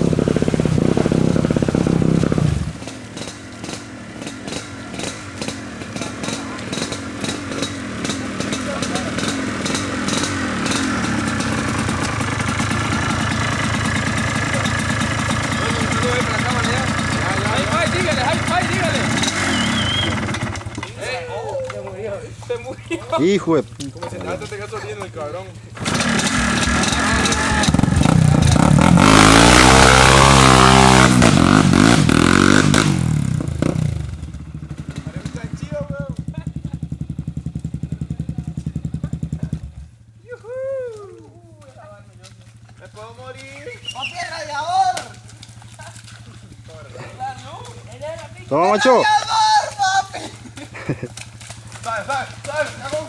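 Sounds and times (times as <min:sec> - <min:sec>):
atv engine revving and idling: 0:00.0 - 0:53.0
quad bike churning through mud: 0:00.0 - 0:53.0.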